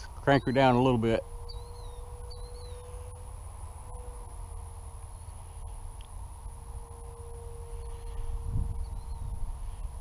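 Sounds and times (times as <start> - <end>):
bird chirp: 0.0 - 5.7, 7.6 - 10.0
high insect whine: 0.0 - 10.0
wind rumble on microphone: 0.0 - 10.0
model airplane motor hum: 1.2 - 10.0.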